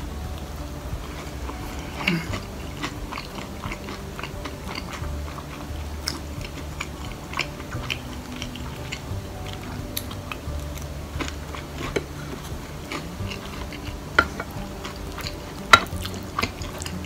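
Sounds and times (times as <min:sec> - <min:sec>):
person chewing food: 0:00.3 - 0:17.0.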